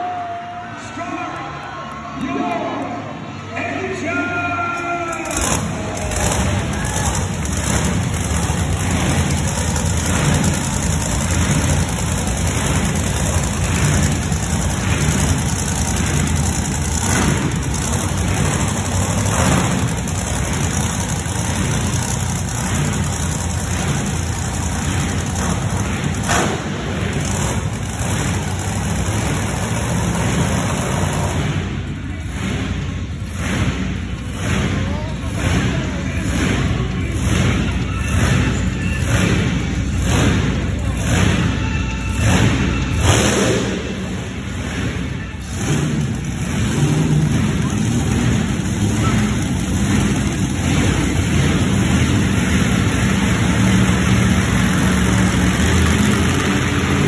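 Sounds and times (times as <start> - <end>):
monster truck engine running: 0.0 - 57.0.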